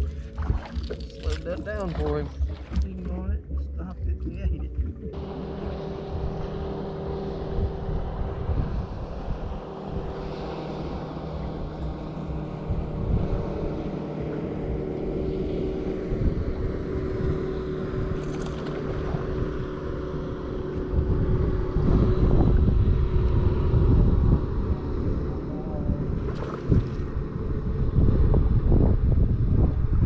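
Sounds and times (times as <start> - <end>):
boat motor humming: 0.0 - 30.0
wind rumbling on microphone: 0.0 - 30.0.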